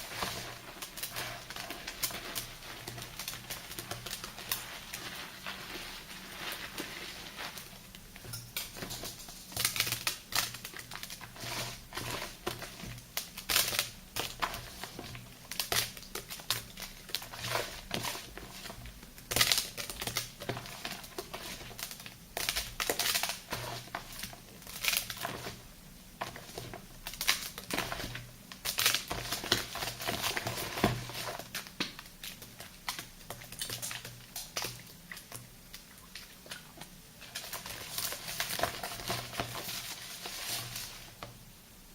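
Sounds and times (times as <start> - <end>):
soap lather being squished: 0.0 - 41.3.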